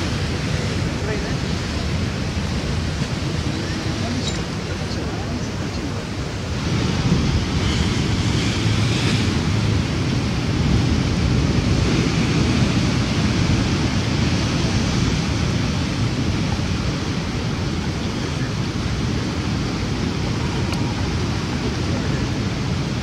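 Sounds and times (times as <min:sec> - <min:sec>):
sea washing against rocky shore: 0:00.0 - 0:23.0
wind rumbling on microphone: 0:00.0 - 0:23.0.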